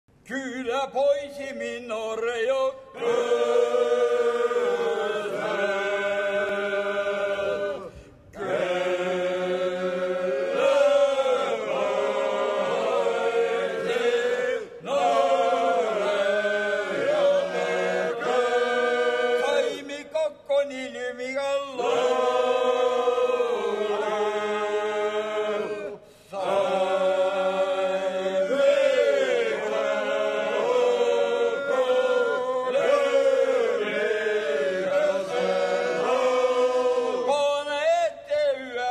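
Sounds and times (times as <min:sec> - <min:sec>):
choir singing unaccompanied: 0:02.9 - 0:20.2, 0:21.7 - 0:38.9.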